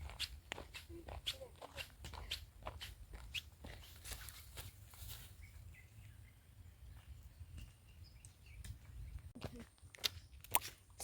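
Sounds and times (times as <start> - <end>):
footsteps on a forest trail: 0.0 - 5.8, 6.8 - 11.0.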